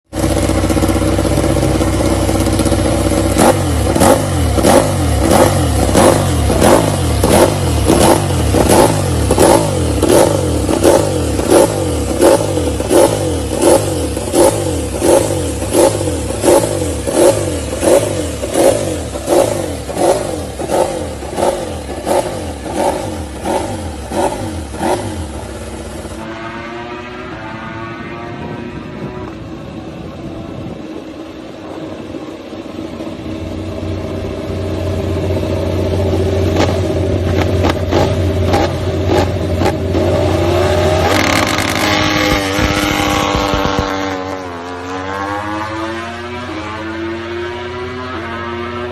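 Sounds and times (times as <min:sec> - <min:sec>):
motorcycle engine revving: 0:00.1 - 0:48.9.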